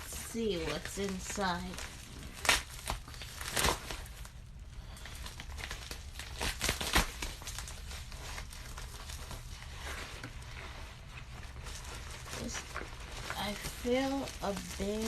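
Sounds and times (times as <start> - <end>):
package wrapping crinkling and tearing: 0.0 - 15.0.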